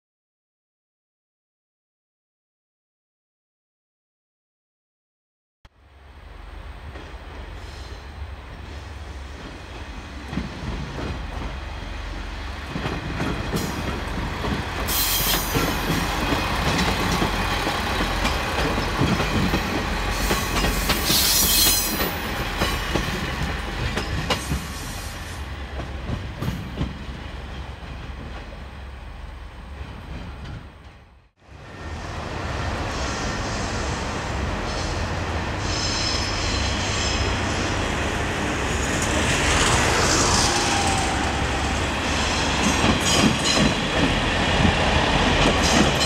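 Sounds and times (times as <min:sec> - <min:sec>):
train passing rumble: 0:05.8 - 0:46.0.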